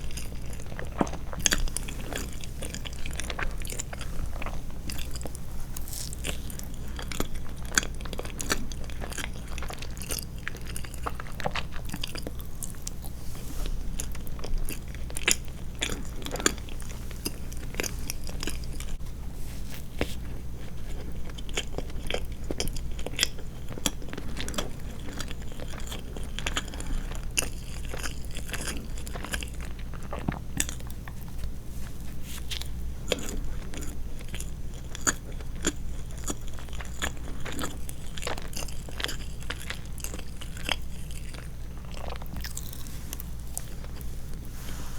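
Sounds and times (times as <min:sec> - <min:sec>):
person chewing: 0:00.0 - 0:19.0, 0:19.7 - 0:44.9
faint low hum: 0:00.0 - 0:44.9.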